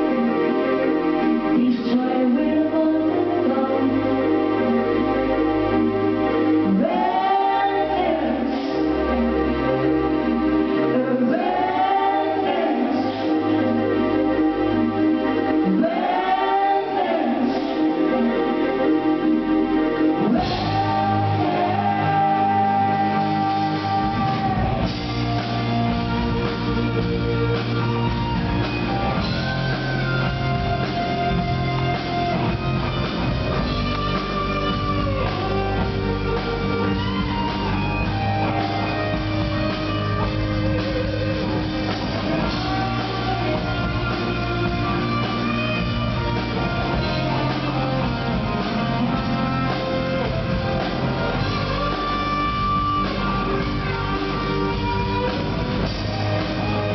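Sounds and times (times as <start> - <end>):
rock band playing instrumental: 0.0 - 56.9.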